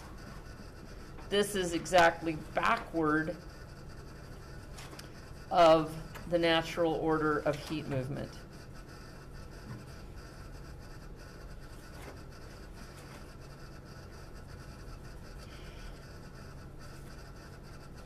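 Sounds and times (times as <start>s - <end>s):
low steady hum: 0.0s - 18.0s
marker squeaking on whiteboard: 0.0s - 18.0s.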